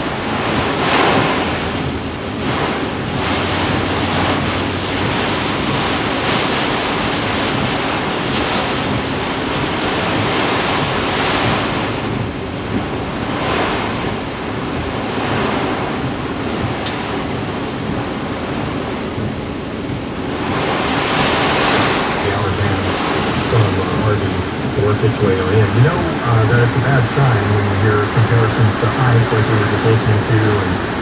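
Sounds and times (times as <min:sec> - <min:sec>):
heavy surf breaking: 0:00.0 - 0:31.0.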